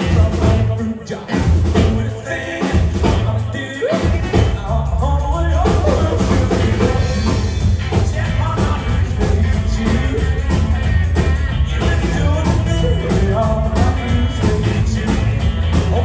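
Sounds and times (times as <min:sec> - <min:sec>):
drums: 0:00.0 - 0:16.0
guitars: 0:00.0 - 0:16.0
person singing: 0:00.0 - 0:16.0
upright double bass: 0:00.0 - 0:16.0.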